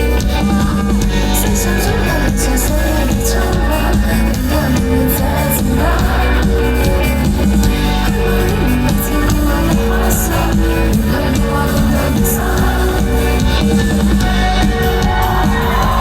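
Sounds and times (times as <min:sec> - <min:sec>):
held bass notes: 0:00.0 - 0:16.0
live pop band playing: 0:00.0 - 0:16.0.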